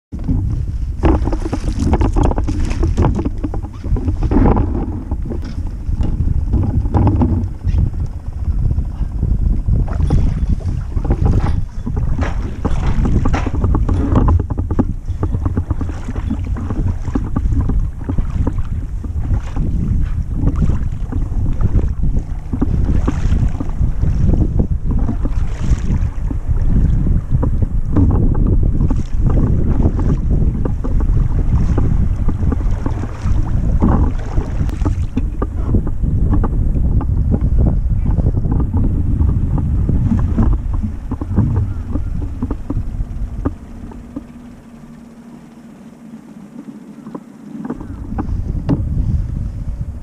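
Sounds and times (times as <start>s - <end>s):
wind buffeting microphone: 0.1s - 50.0s
kayak paddle splashing water: 0.4s - 5.8s, 9.8s - 36.8s, 38.4s - 48.4s.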